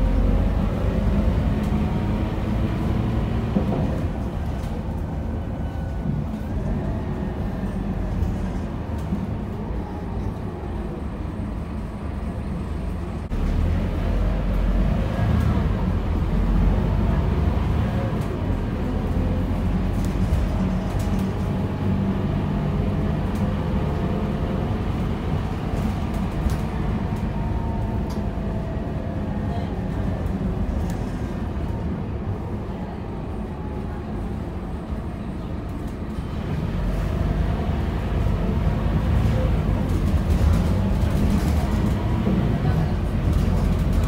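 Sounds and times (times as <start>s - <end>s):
bus engine and road rumble: 0.0s - 44.0s.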